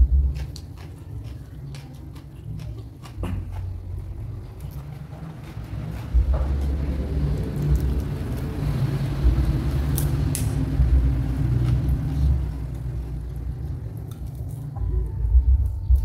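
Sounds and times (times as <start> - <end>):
chewing raw vegetables: 0.0 - 10.1, 10.7 - 14.9.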